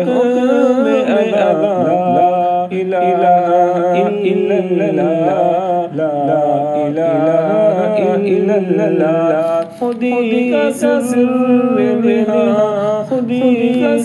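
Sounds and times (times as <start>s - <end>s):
low vocal drone: 0.0s - 14.0s
person singing unaccompanied: 0.0s - 14.0s.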